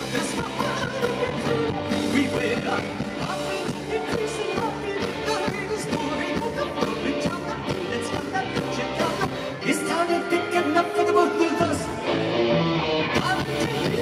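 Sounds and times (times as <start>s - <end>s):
man singing: 0.0s - 12.2s, 13.0s - 14.0s
live rock band playing: 0.0s - 14.0s.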